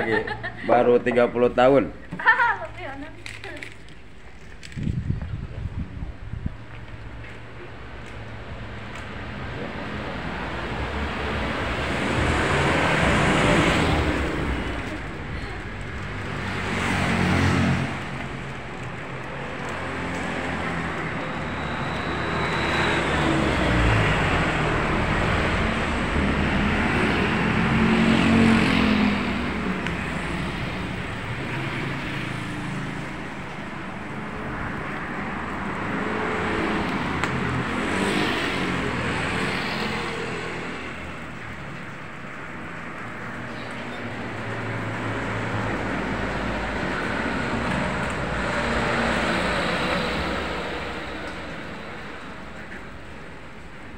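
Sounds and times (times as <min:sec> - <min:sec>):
vehicles passing close by: 0:00.0 - 0:53.9.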